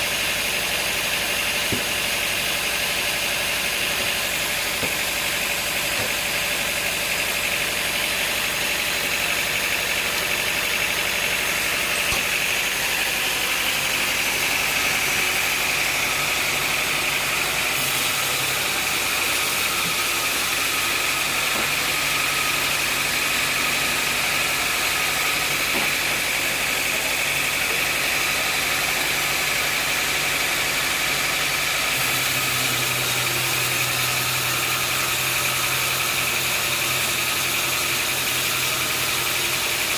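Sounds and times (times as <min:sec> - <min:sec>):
high machine whine: 0:00.0 - 0:39.9
sawmill machinery droning: 0:00.0 - 0:39.9.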